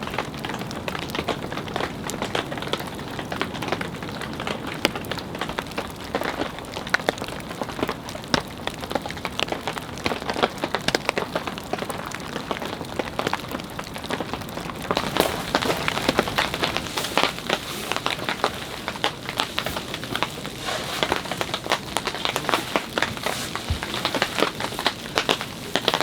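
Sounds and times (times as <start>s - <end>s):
rain on fabric shelter: 0.0s - 26.0s.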